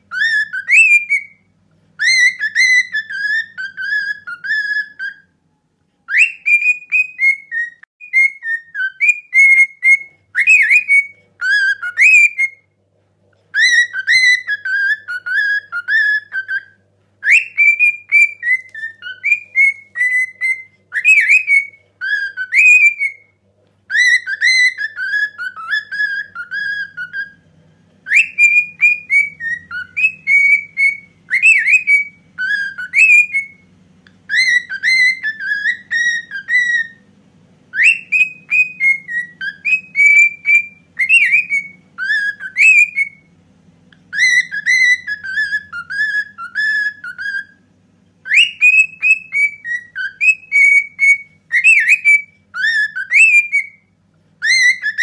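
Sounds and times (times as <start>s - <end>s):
cockatiel whistling a melody: 0.0s - 55.0s.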